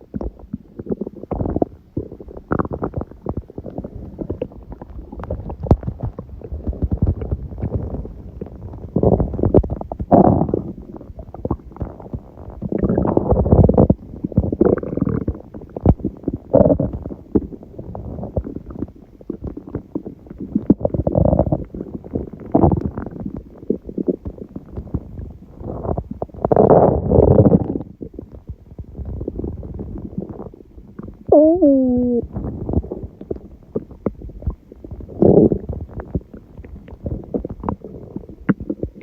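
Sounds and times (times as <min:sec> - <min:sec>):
stomach growling and gurgling: 0:00.0 - 0:39.0.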